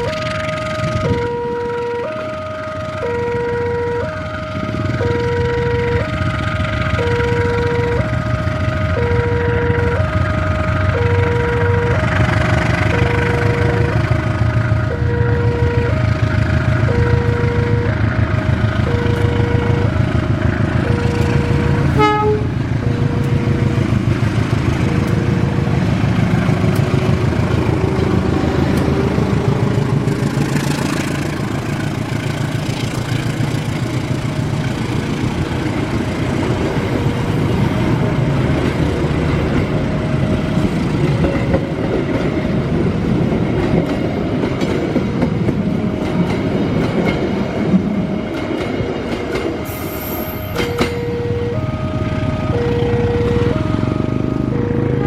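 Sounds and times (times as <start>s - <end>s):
two-tone level crossing alarm: 0.0s - 31.2s, 35.8s - 55.0s
train rumbling past: 0.0s - 55.0s.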